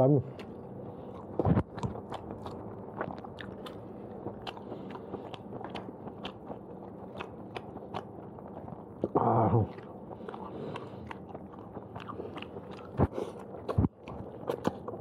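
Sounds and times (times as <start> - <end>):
chewing noodles: 0.2 - 15.0.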